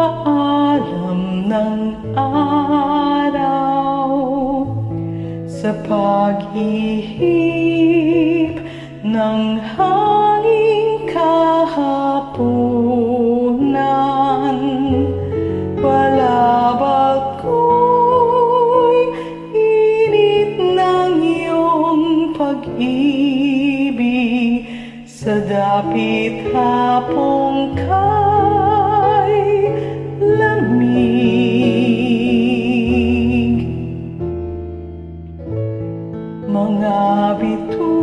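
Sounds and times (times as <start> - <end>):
woman singing with vibrato: 0.0 - 4.8, 5.5 - 33.9, 36.4 - 38.0.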